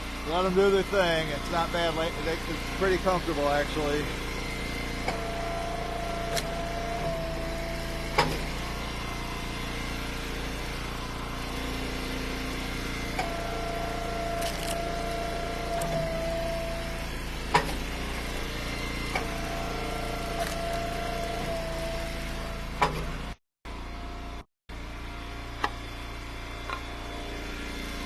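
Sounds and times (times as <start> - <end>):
wood splitter engine running: 0.0 - 28.0.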